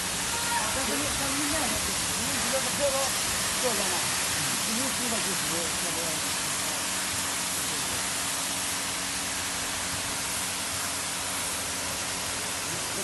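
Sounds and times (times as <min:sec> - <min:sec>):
spraying water hiss: 0:00.0 - 0:13.0.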